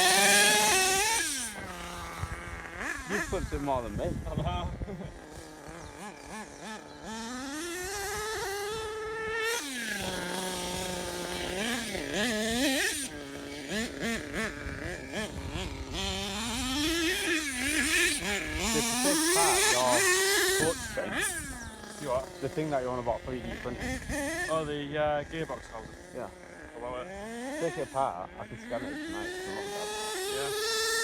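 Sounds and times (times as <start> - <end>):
small nitro engine revving: 0.0 - 31.0.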